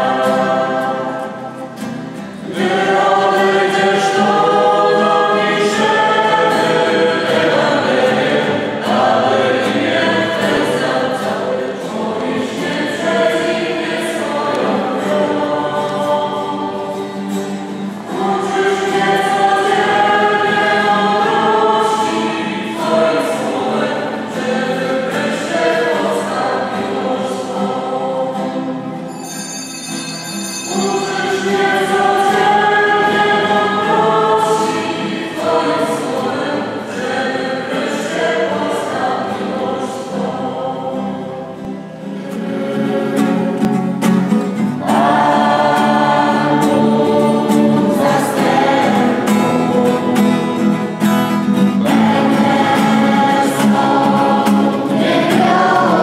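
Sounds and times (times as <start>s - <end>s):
choir singing a hymn: 0.0s - 29.2s, 30.6s - 56.0s
acoustic guitar: 0.0s - 56.0s.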